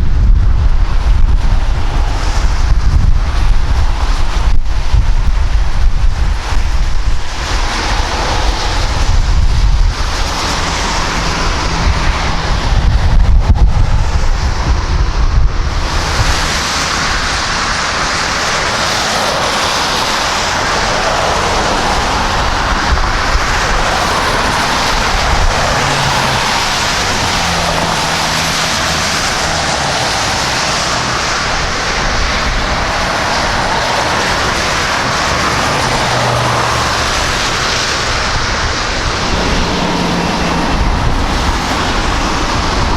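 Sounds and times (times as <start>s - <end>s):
jet engines roaring: 0.0s - 42.9s
wind buffeting microphone: 0.0s - 42.9s.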